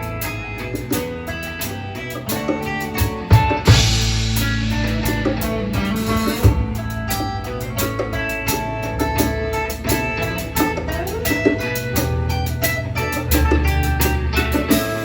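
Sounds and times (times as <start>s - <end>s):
bass notes: 0.0s - 15.0s
drum kit: 0.0s - 15.0s
electric guitar notes: 0.0s - 15.0s.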